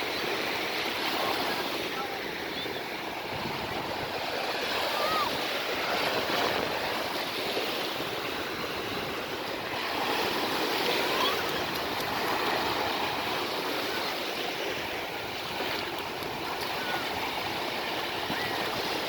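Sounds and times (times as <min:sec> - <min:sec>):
sea surf washing: 0:00.0 - 0:19.0.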